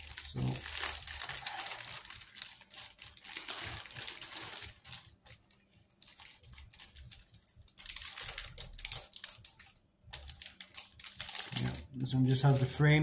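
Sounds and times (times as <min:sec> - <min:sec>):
plastic bags crinkling: 0:00.0 - 0:12.8.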